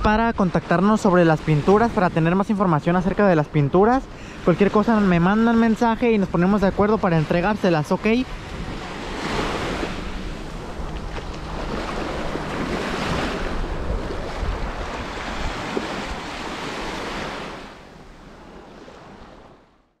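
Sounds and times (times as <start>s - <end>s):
wind buffeting microphone: 0.0s - 19.6s
small waves washing onto sand: 0.4s - 19.8s.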